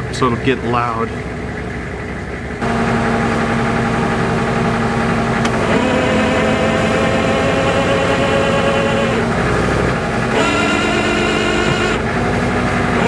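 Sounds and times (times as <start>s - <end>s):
truck engine idling high: 0.0s - 13.0s.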